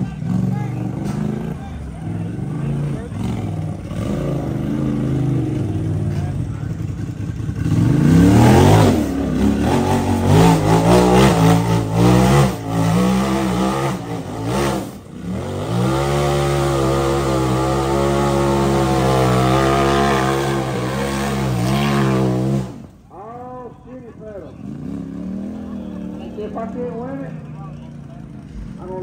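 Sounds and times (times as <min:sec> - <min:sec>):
utility vehicle engine revving: 0:00.0 - 0:29.0.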